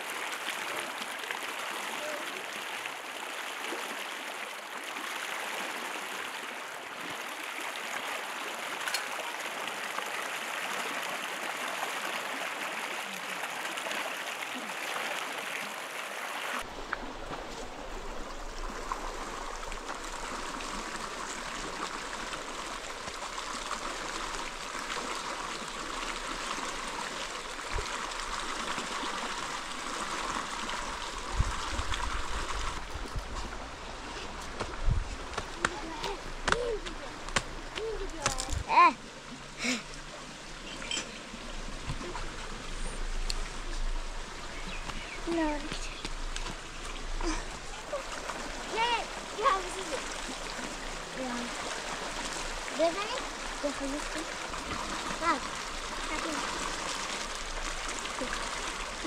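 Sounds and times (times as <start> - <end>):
river rushing over stones: 0.0 - 59.0.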